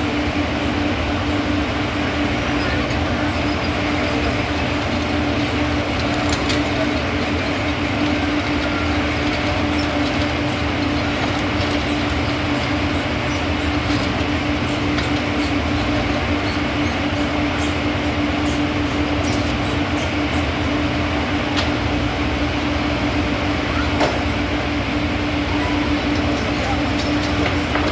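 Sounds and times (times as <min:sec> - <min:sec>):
rail vehicle rumbling: 0:00.0 - 0:27.9.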